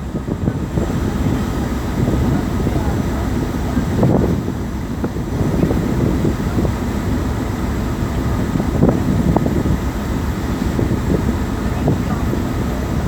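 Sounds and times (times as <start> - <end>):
boat engine rumble: 0.0 - 13.0
water noise: 0.0 - 13.0.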